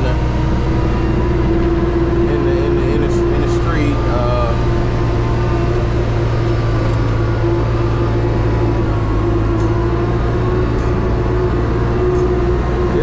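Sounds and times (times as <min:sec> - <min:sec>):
steady engine whine: 0:00.0 - 0:13.0
truck diesel engine droning: 0:00.0 - 0:13.0.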